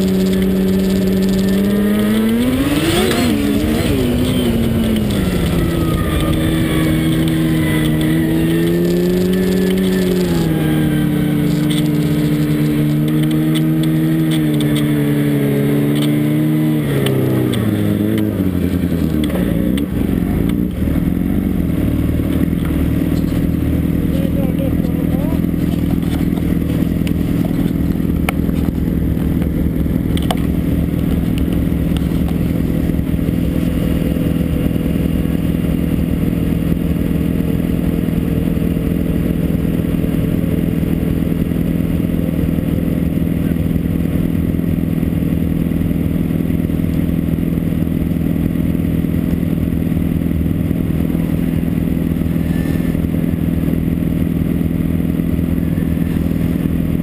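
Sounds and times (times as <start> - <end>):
snowmobile engine idling: 0.0 - 57.0.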